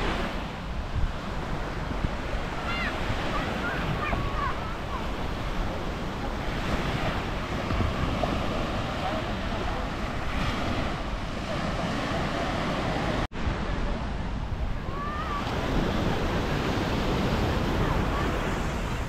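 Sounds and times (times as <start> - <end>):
waves washing on sandy beach: 0.0 - 19.0
wind buffeting microphone: 0.0 - 19.0.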